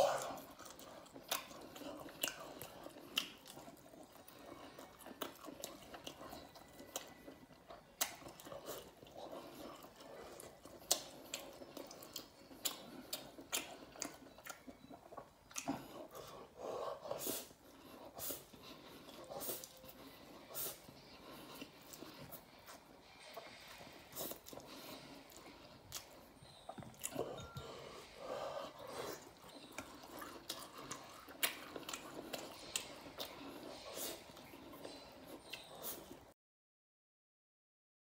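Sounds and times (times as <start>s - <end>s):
man chewing and lip smacking: 0.0s - 36.3s.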